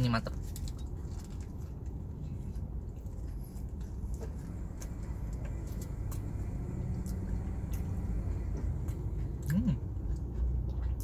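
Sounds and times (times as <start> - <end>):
low rumble inside car: 0.0 - 11.0
person chewing crunchy food: 0.4 - 11.0.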